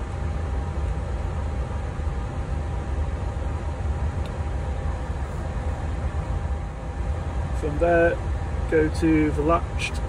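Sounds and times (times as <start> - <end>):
air-conditioning airflow: 0.0 - 10.0.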